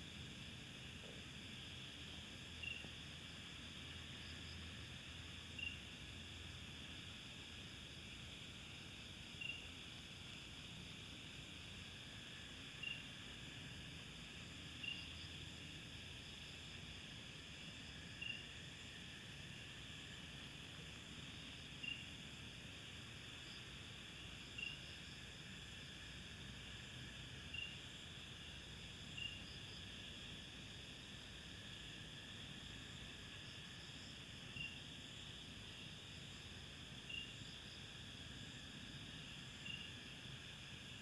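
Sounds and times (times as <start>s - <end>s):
insects humming: 0.0s - 41.0s.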